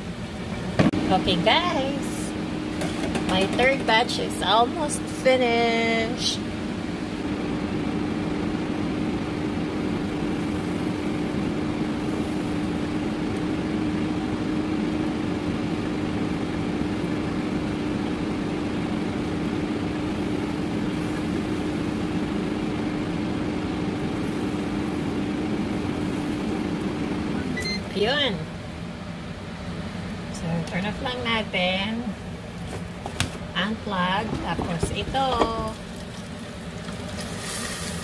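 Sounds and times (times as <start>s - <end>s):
air fryer fan whirring: 0.0s - 38.0s.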